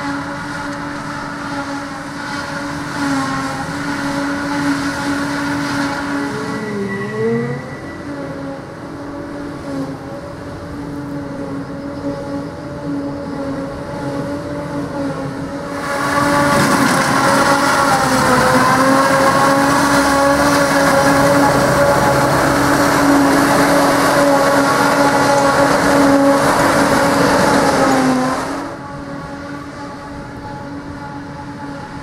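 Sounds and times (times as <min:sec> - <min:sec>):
farm machinery engine drone: 0:00.0 - 0:32.0.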